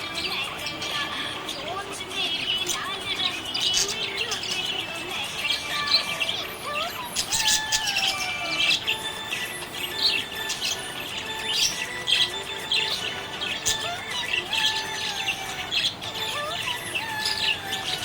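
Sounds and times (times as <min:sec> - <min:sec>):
budgerigar chirping and warbling: 0:00.0 - 0:18.0.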